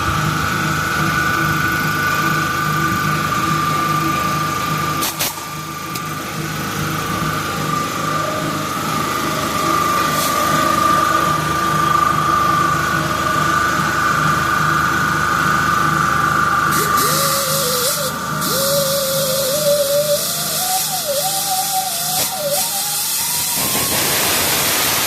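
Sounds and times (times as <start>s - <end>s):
machine whining and humming: 0.0s - 25.0s.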